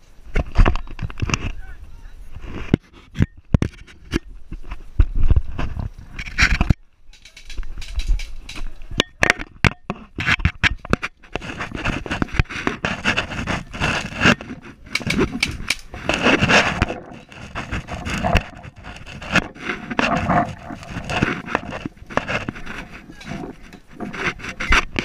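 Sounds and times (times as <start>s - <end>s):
branches and leaves scraping: 0.0s - 9.0s, 9.9s - 25.0s.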